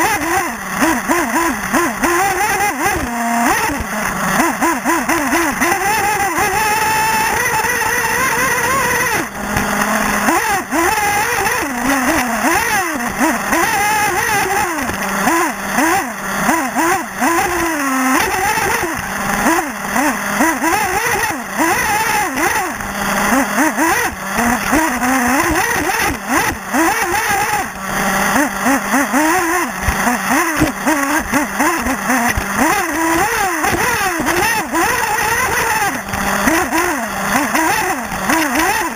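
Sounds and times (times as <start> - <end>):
small nitro engine revving: 0.0 - 38.9.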